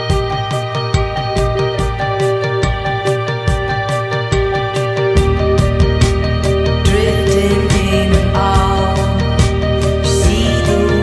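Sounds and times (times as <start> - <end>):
drum-like hits: 0.0 - 10.8
steady bass line: 0.0 - 11.0.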